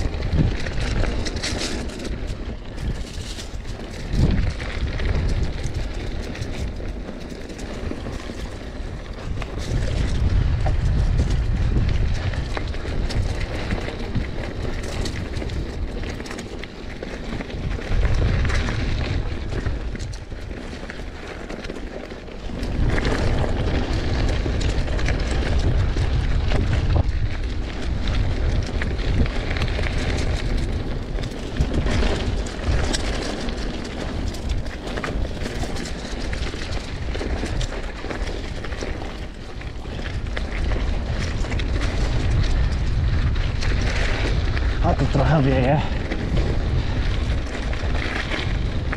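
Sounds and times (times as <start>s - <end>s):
bike rattling and clicking: 0.0s - 48.9s
wind buffeting microphone: 0.0s - 48.9s.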